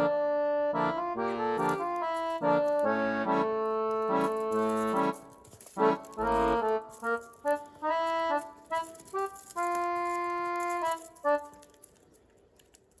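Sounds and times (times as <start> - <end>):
reedy wind instrument tune: 0.0 - 11.6.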